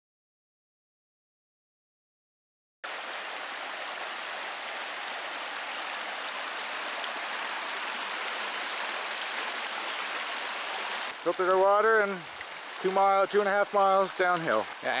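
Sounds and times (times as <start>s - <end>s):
creek rushing over rocks: 2.8s - 15.0s.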